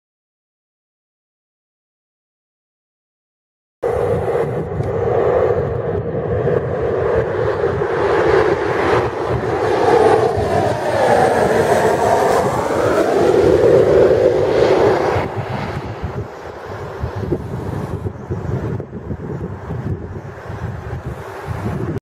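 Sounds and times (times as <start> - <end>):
turboprop plane passing overhead: 3.8 - 22.0.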